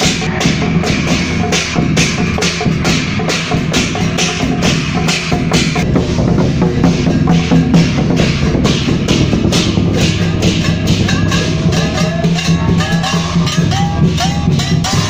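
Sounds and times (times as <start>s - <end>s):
big drum and cymbals beat: 0.0s - 15.0s.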